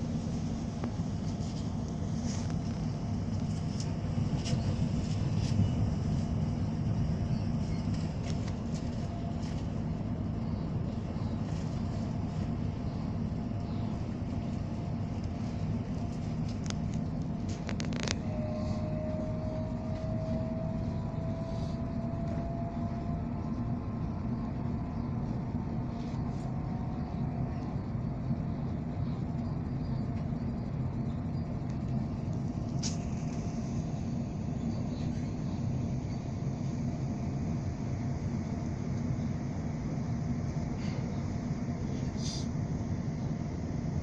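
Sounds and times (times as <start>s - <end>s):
faint rising whine: 0.0s - 44.0s
train rumbling inside carriage: 0.0s - 44.0s.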